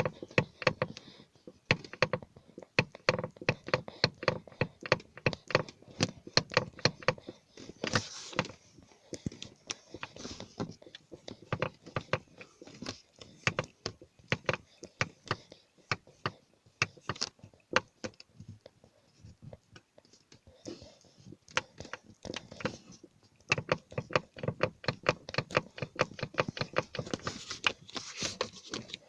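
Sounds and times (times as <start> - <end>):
plastic dashboard panel squeaking: 0.0 - 8.7, 9.3 - 18.6, 21.3 - 29.0.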